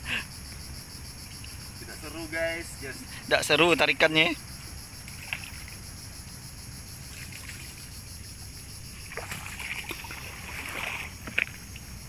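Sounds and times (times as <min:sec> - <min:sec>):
high-pitched insect drone: 0:00.0 - 0:12.0
water trickling and splashing: 0:01.2 - 0:12.0.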